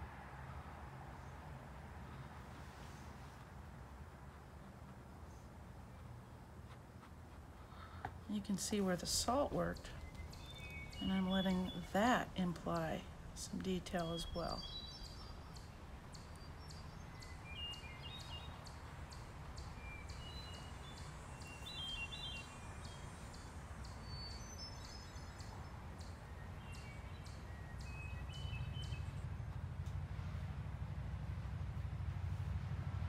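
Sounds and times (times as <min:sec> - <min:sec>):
low outdoor rumble: 0:00.0 - 0:33.0
small birds chirping: 0:01.1 - 0:30.1.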